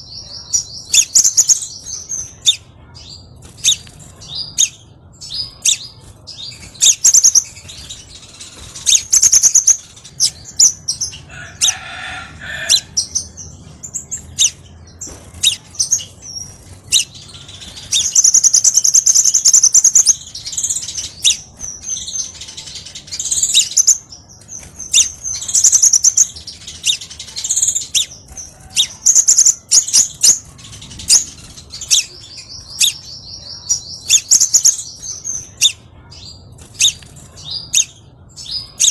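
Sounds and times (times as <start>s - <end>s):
bird chirping: 0.0s - 38.9s
bird buzzy trills: 0.6s - 38.9s.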